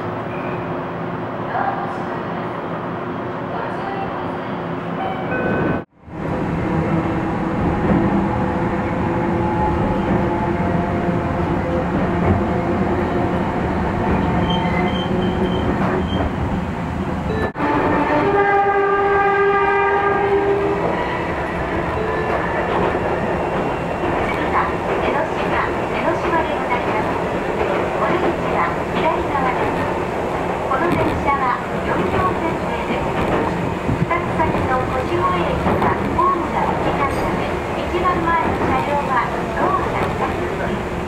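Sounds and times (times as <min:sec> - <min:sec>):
train wheels rumbling on track: 0:06.1 - 0:41.0.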